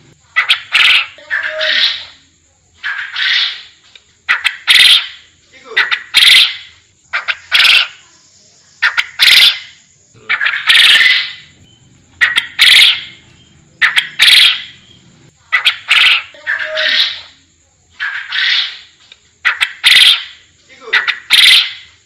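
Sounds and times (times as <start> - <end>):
quail calling: 0.3 - 2.2, 2.8 - 8.0, 8.8 - 17.4, 18.0 - 22.0.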